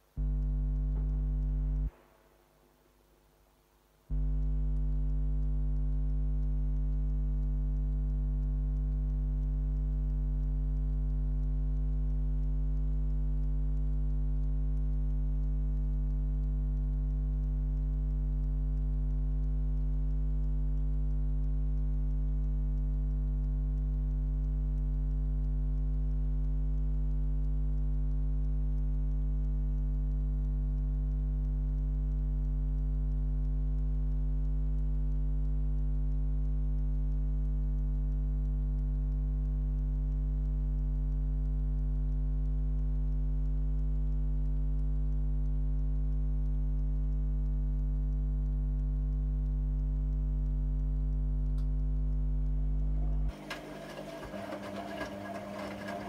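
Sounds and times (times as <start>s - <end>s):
low mains hum: 0.0s - 56.0s.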